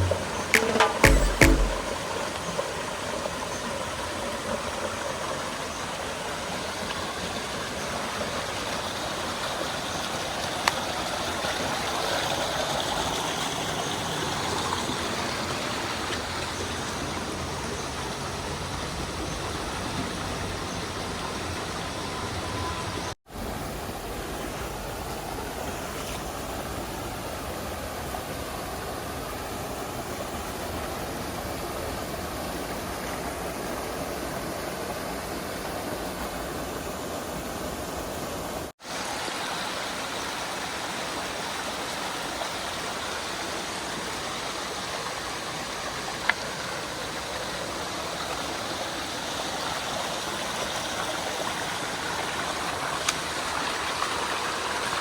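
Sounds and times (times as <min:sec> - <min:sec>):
water rushing down rocky stream: 0:00.0 - 0:22.0, 0:23.5 - 0:55.0.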